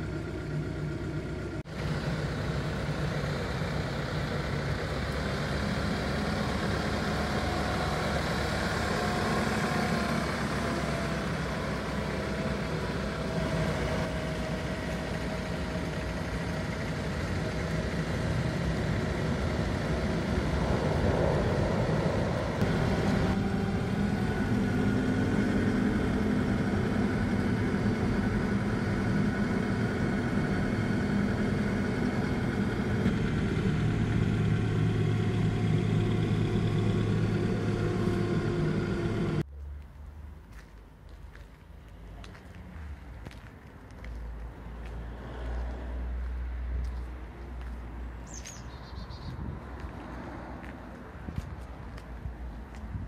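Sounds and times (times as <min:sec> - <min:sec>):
diesel engine running: 0:00.0 - 0:39.5, 0:46.2 - 0:53.0.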